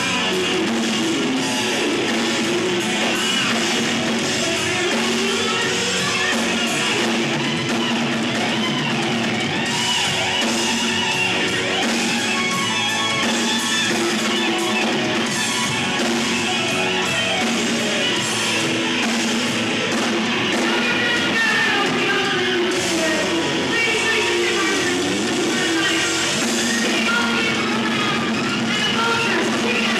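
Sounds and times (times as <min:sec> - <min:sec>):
drum kit: 0:00.0 - 0:29.9
rock guitar bending pitch: 0:00.0 - 0:29.9.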